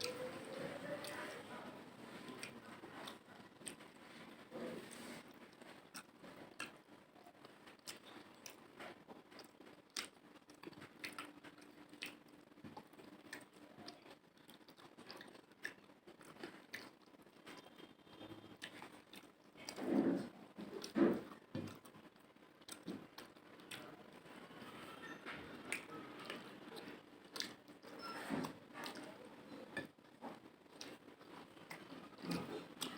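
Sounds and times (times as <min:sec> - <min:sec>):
person chewing food: 0:00.0 - 0:01.4, 0:02.0 - 0:32.9.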